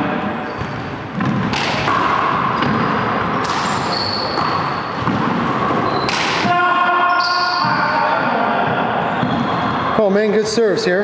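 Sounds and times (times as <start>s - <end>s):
sneakers squeaking on wooden floor: 0.3s - 6.3s, 7.1s - 10.0s.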